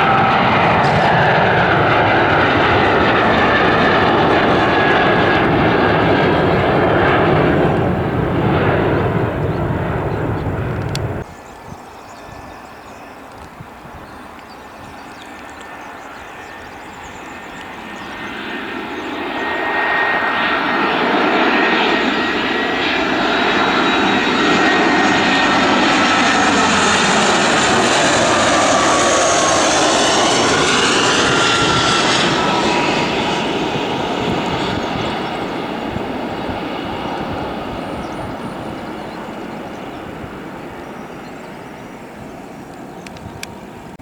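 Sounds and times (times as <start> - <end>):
airliner passing: 0.0 - 44.0.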